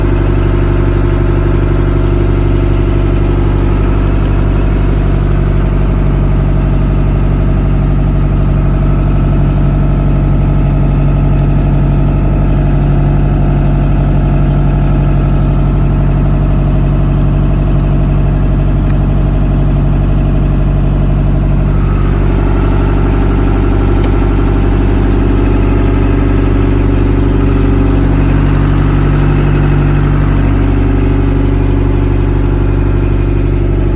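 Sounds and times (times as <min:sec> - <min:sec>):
boat engine running: 0:00.0 - 0:33.9.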